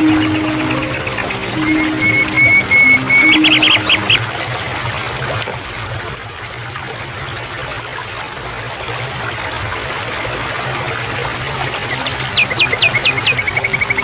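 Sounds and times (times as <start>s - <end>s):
stream water trickling: 0.0s - 14.0s.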